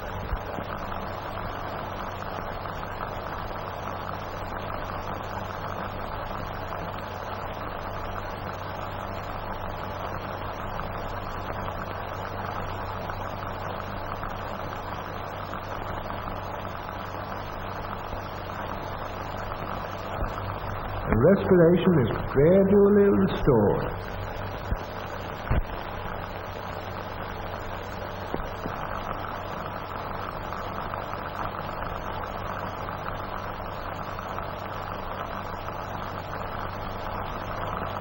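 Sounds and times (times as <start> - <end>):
low mains hum: 0.0 - 38.0.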